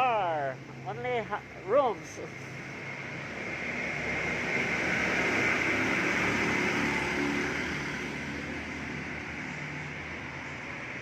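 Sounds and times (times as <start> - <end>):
vehicle passing on road: 0.0 - 11.0.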